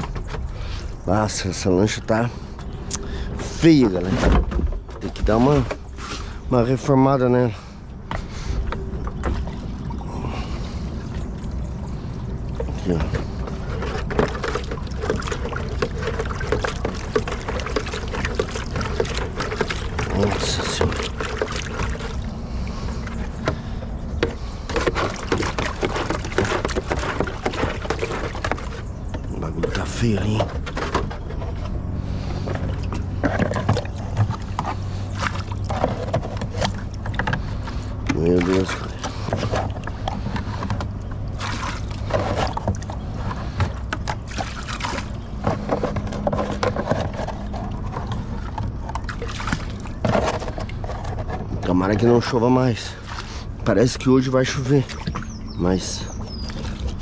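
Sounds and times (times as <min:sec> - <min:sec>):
steady low hum: 0:00.0 - 0:57.0
water scooping splashes: 0:08.2 - 0:57.0.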